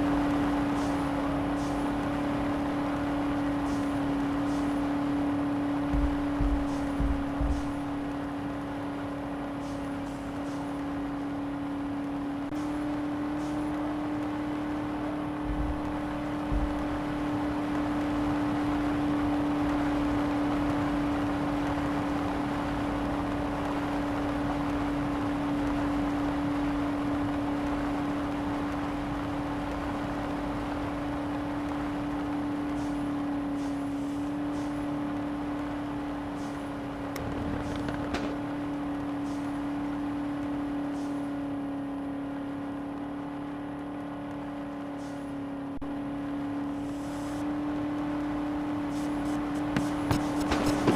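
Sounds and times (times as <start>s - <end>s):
road and tyre noise: 0.0s - 50.9s
vehicle driving: 0.0s - 50.9s.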